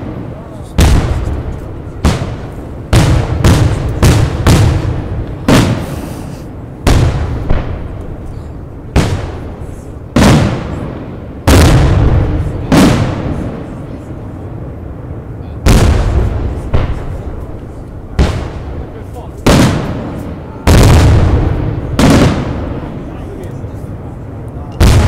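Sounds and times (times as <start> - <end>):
firework bangs with echo: 0.0 - 14.1, 15.6 - 23.2, 24.8 - 25.0.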